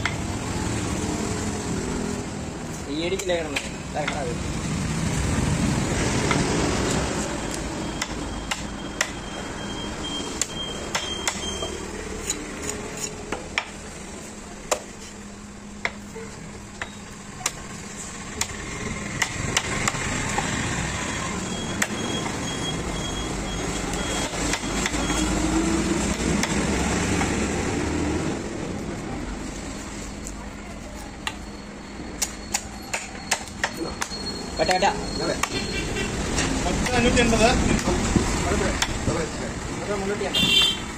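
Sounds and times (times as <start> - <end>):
traffic rumble: 0.0 - 40.9.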